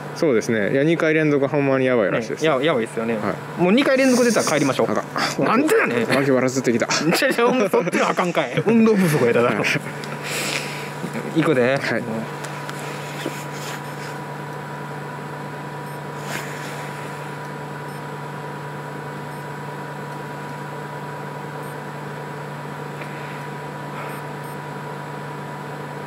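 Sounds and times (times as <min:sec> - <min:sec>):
thin steady whine: 0:00.0 - 0:26.0.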